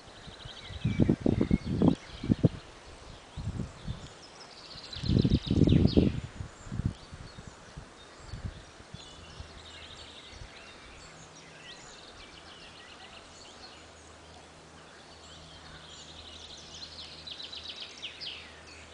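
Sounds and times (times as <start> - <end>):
songbirds singing: 0.0 - 18.9.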